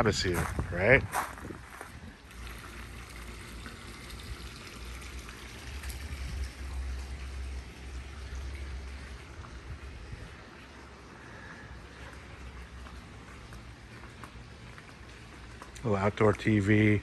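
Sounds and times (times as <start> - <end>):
water trickling into pool: 1.6 - 17.0.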